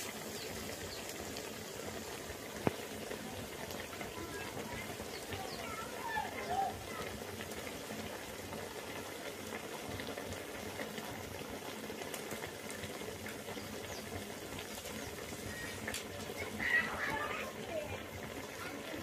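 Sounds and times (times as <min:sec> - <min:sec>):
curry bubbling in a wok: 0:00.0 - 0:19.0.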